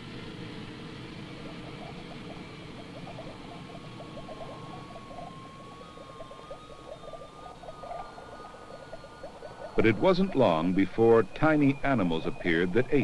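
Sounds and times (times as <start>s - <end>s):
electronic blips: 1.4s - 13.0s
thin held electronic tones: 1.6s - 13.0s.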